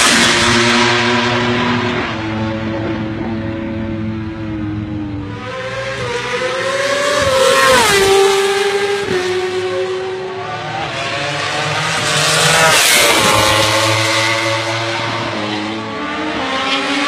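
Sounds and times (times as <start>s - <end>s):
racing motorcycles passing at speed: 0.0s - 17.0s.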